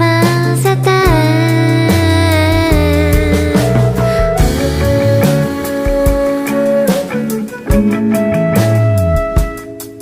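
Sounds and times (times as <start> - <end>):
soft bossa nova pop instrumental: 0.0 - 10.0.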